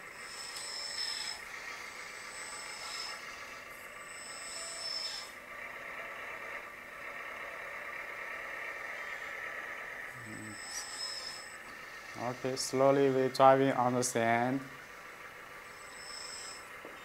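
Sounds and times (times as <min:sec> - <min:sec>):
engine running sound: 0:00.0 - 0:17.0
reversing beeper: 0:00.0 - 0:17.0.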